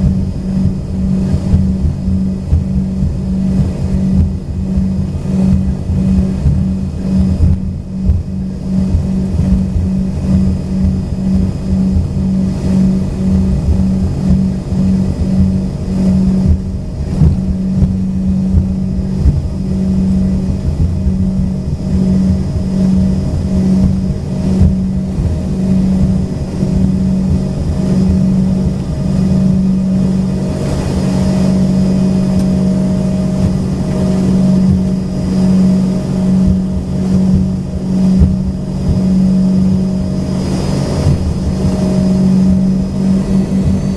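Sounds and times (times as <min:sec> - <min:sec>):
jet engines humming: 0:00.0 - 0:43.9
low rumble: 0:00.0 - 0:43.9
thin high whine: 0:00.0 - 0:43.9.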